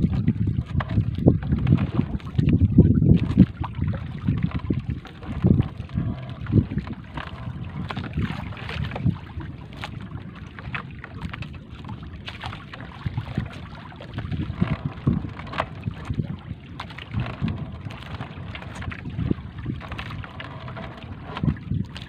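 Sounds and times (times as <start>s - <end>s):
water splashing and dripping: 0.0s - 22.0s
wind buffeting microphone: 0.0s - 22.0s.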